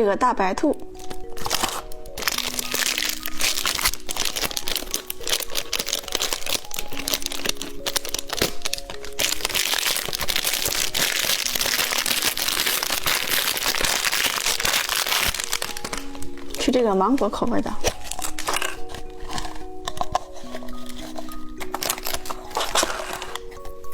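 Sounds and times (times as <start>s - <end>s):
light background music: 0.0s - 23.9s
candy wrappers crinkling: 0.6s - 23.9s.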